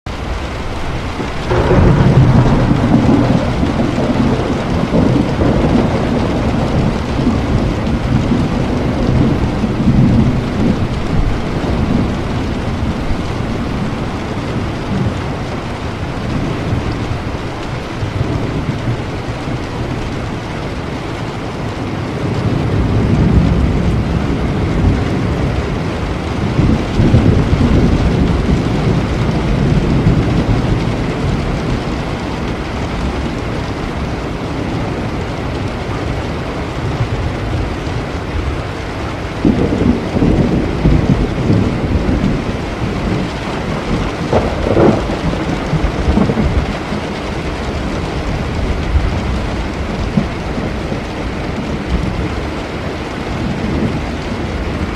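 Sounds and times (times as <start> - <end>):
steady rain: 0.1 - 54.9.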